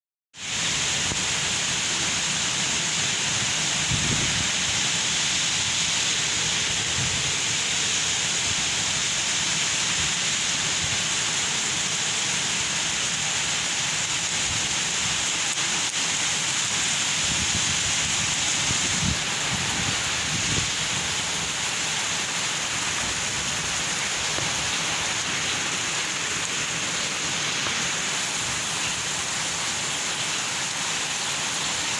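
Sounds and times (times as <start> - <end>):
rain falling: 0.4 - 31.9.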